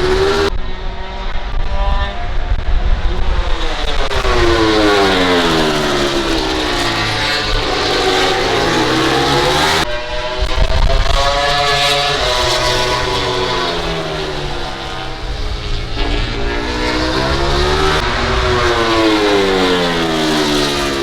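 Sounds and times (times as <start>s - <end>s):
race bike engine revving: 0.0s - 21.0s.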